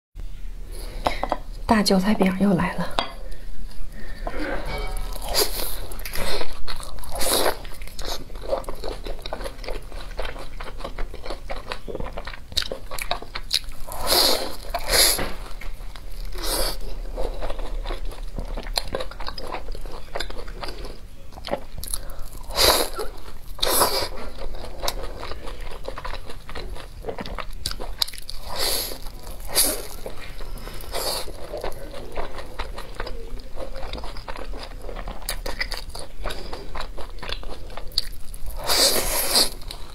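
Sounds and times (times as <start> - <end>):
chewing: 5.1 - 39.9.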